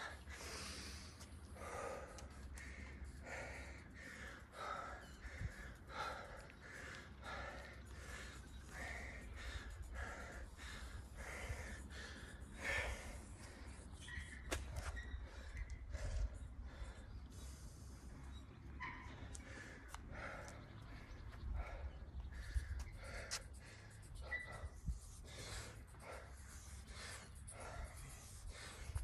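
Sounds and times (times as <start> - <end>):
man breathing hard: 0.0 - 29.0
steady low rumble: 0.0 - 29.0.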